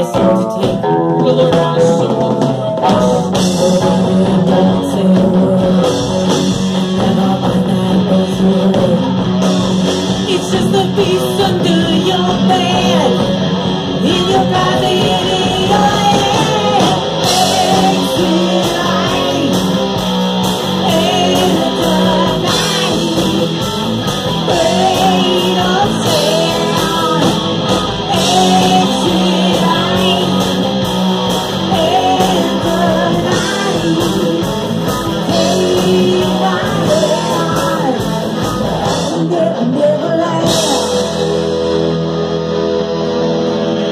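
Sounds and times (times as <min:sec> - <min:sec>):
woman singing into a microphone: 0:00.0 - 0:09.5, 0:10.2 - 0:13.4, 0:14.0 - 0:23.7, 0:24.3 - 0:30.7, 0:31.4 - 0:41.6
drum kit: 0:00.0 - 0:43.9
electric guitar: 0:00.0 - 0:43.9.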